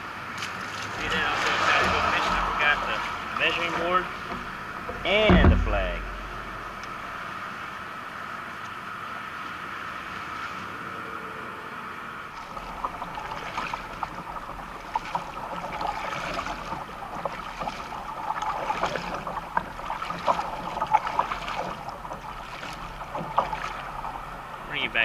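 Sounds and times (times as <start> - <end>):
water sloshing around kayak: 0.0 - 8.2, 12.2 - 25.0.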